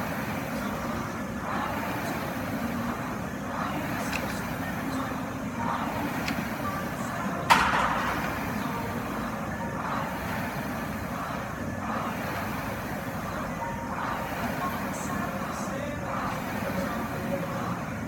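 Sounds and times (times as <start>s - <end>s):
rowing machine fan whooshing: 0.0s - 18.0s
steady hum: 0.0s - 18.0s.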